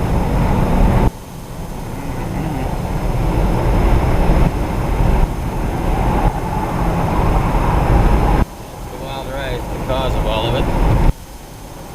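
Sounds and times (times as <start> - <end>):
car road and engine rumble: 0.0 - 11.9.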